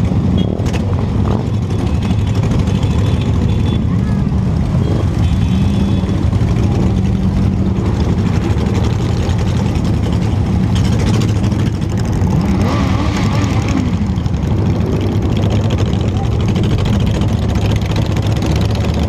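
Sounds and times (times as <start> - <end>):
motorcycle engine drone: 0.0 - 19.0
road noise: 0.0 - 19.0.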